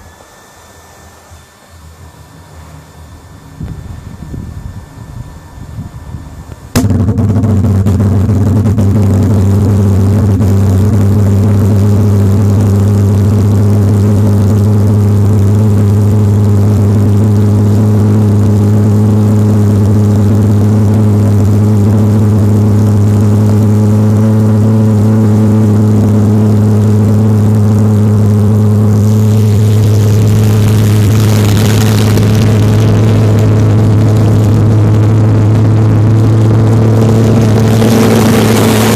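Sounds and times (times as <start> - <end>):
pulse jet buzzing drone: 0.0 - 38.9.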